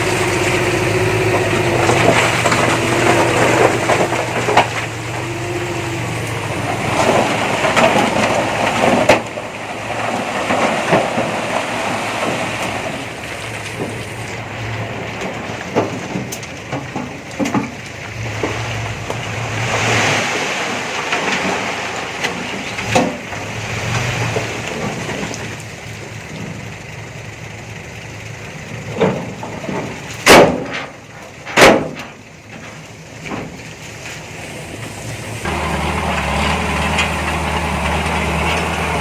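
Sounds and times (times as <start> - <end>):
heavy diesel engine running: 0.0 - 19.7, 22.4 - 31.6, 32.6 - 39.0.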